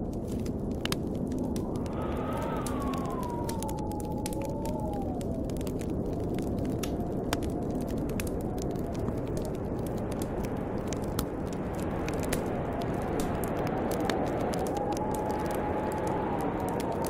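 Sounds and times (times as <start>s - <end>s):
snowstorm wind rushing: 0.0s - 17.0s
whistling wind: 0.0s - 17.0s
wood fire crackling and popping: 0.0s - 17.0s.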